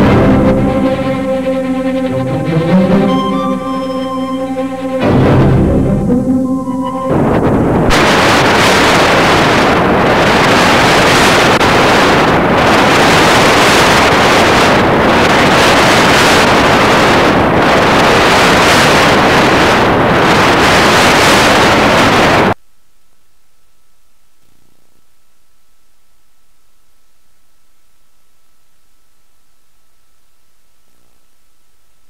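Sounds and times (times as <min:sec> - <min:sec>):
videotape static hiss: 0:00.0 - 0:32.0.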